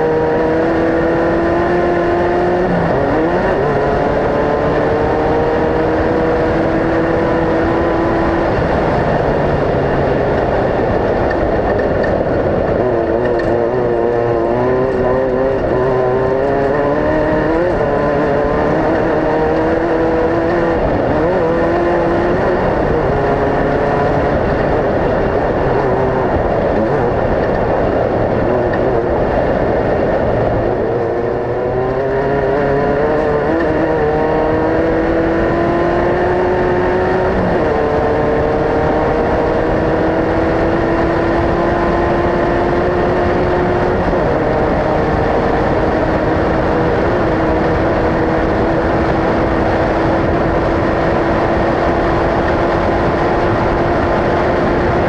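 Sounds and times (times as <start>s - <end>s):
race vehicle engines revving: 0.0s - 55.0s.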